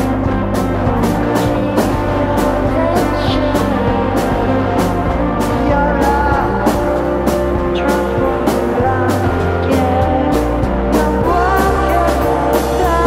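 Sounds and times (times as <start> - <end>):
alternative rock band music: 0.0 - 13.0.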